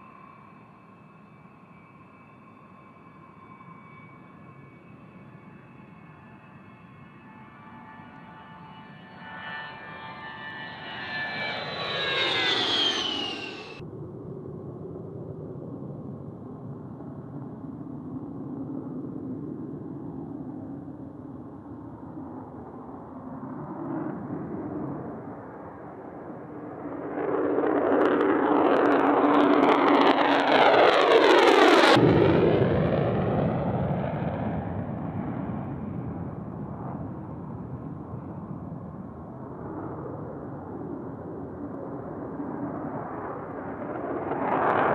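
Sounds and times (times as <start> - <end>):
fighter jet passing: 0.0 - 15.0, 20.9 - 44.9.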